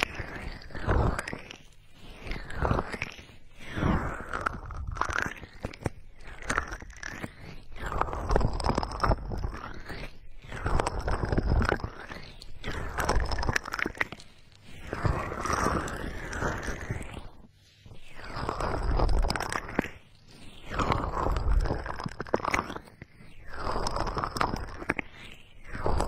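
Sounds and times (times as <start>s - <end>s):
fingers rubbing microphone ears: 0.0s - 23.0s.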